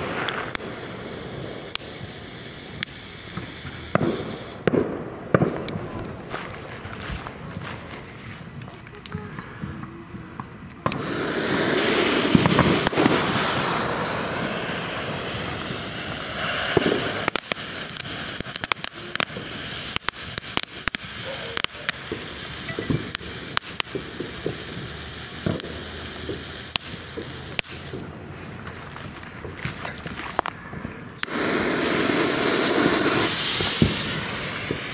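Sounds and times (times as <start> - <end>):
firework crackling pops: 0.0 - 34.9
firework fountain hissing: 0.0 - 34.9.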